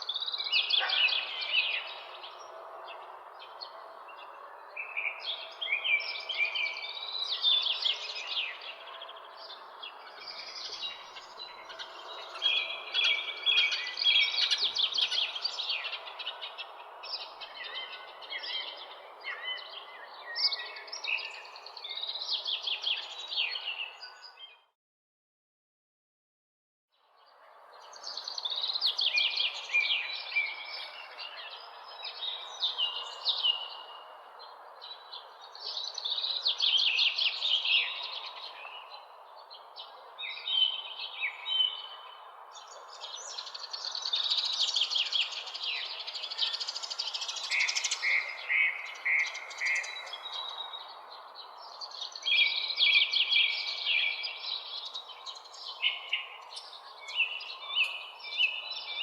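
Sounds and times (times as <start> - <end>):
birds chirping and trilling: 0.0 - 24.7, 27.3 - 59.0.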